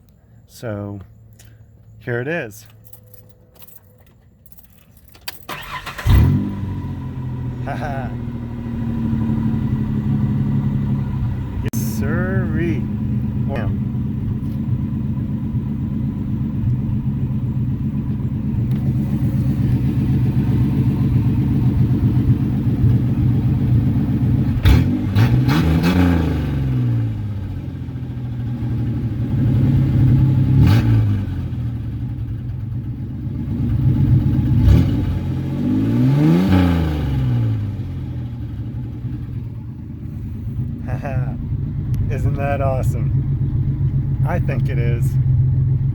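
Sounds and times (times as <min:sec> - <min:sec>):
truck engine idling and revving: 0:00.0 - 0:45.9.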